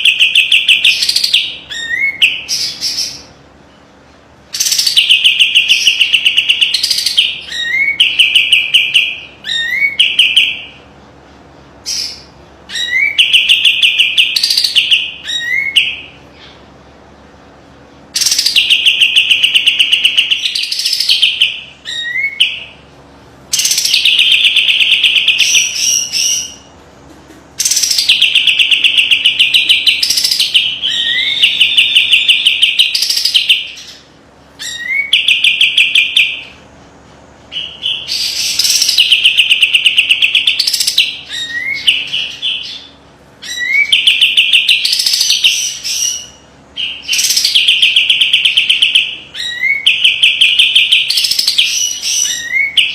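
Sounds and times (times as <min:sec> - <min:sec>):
songbird trilling: 0:00.0 - 0:03.3, 0:04.5 - 0:10.8, 0:11.8 - 0:16.5, 0:18.2 - 0:22.8, 0:23.5 - 0:26.7, 0:27.6 - 0:36.5, 0:37.5 - 0:52.9.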